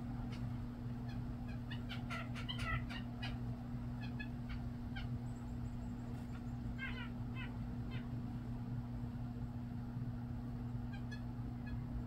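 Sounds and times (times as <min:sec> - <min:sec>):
low steady hum: 0:00.0 - 0:12.0
songbirds chirping: 0:00.0 - 0:12.0.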